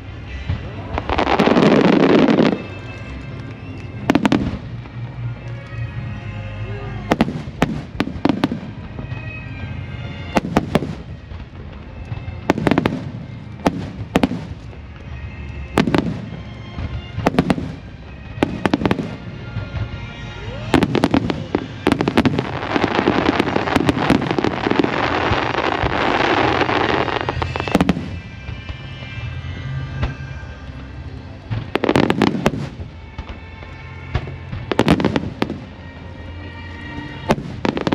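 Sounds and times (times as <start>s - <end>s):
fireworks bursting with bangs: 0.0s - 5.2s, 7.1s - 30.4s, 31.3s - 37.9s
fireworks crackle: 0.0s - 6.0s, 7.1s - 37.9s.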